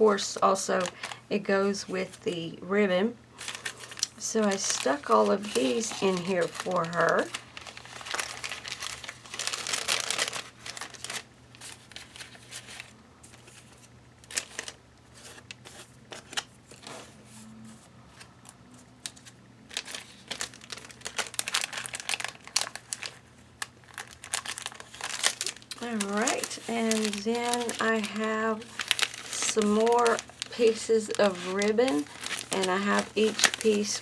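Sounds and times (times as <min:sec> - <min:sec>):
packaging crackling: 0:00.7 - 0:01.2, 0:03.4 - 0:16.9, 0:19.0 - 0:34.0.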